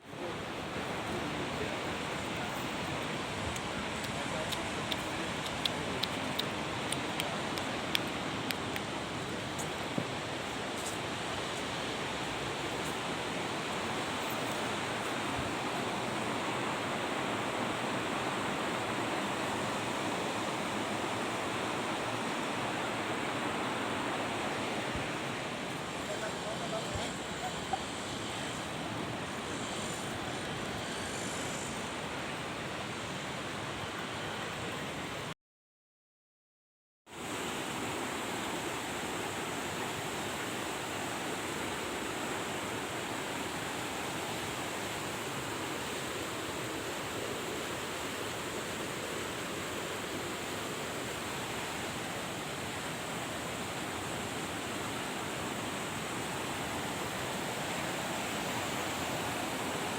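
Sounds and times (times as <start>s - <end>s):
fast-flowing water rushing: 0.0s - 35.3s, 37.1s - 59.9s.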